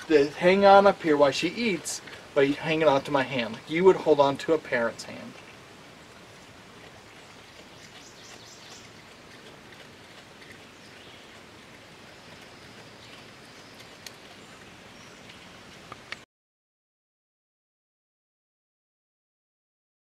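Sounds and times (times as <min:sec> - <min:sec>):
animal chewing from a bowl: 0:00.0 - 0:16.2.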